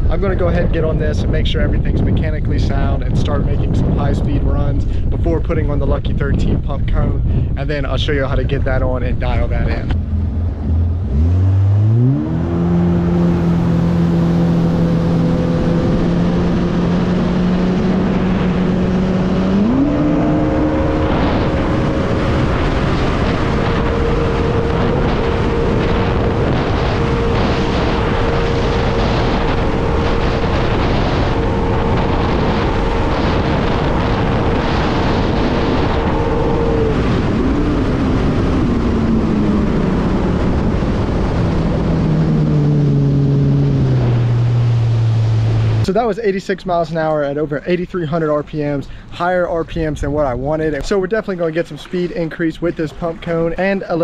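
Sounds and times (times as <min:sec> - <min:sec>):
jet ski engine accelerating: 0:08.1 - 0:54.0.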